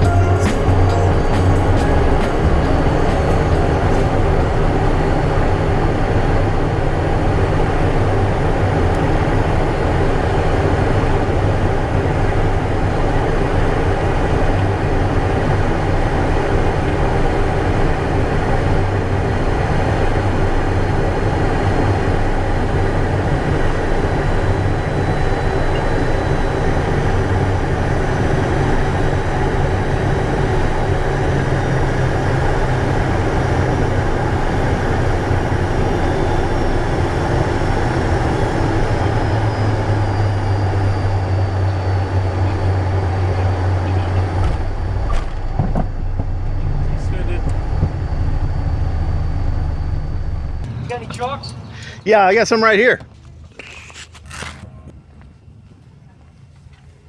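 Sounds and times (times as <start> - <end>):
faint high whine: 0.0 - 57.0
jet engines and airflow: 0.0 - 57.0.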